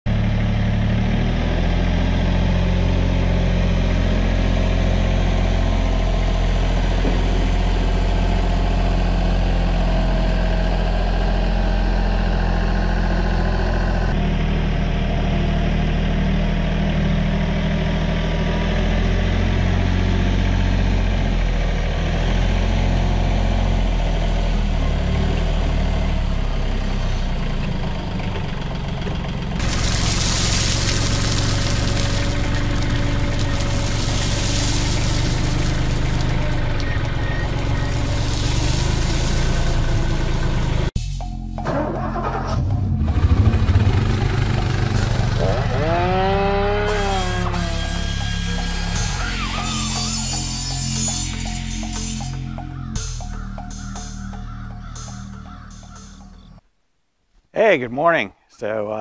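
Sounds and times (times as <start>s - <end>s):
tractor engine running: 0.1s - 56.6s.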